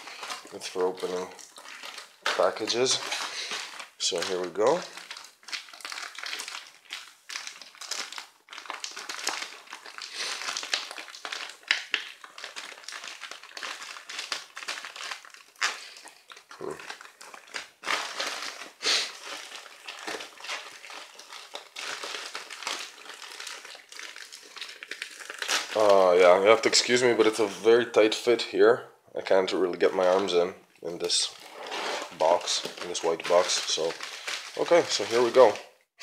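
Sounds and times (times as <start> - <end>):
plastic bag crinkling: 0.0 - 27.6, 29.8 - 35.8.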